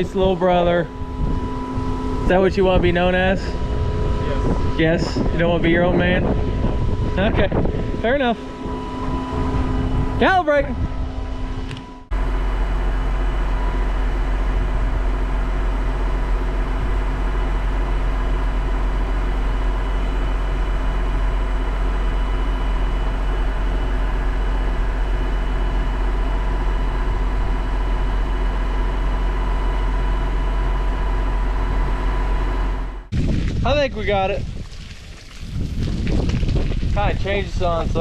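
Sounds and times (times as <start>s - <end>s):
tractor engine droning: 0.0s - 34.1s.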